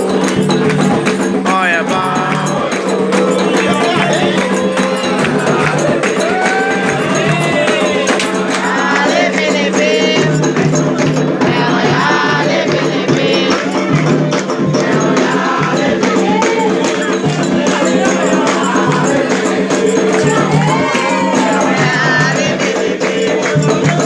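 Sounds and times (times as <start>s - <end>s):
hand drums: 0.0s - 24.0s
voices singing a chant: 0.0s - 24.0s.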